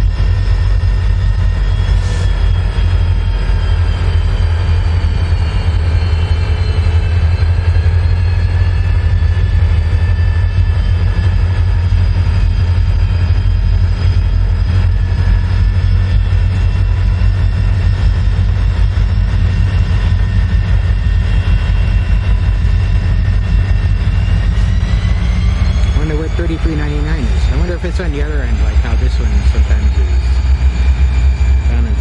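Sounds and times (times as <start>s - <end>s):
diesel locomotive rumble: 0.0s - 32.0s
locomotive high whine: 0.0s - 32.0s.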